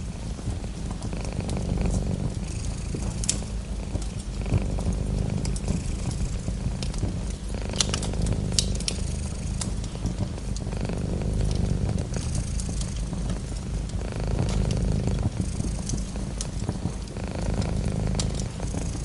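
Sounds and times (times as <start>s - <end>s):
cat purring: 0.0s - 19.0s
fireplace fire crackling: 0.0s - 19.0s.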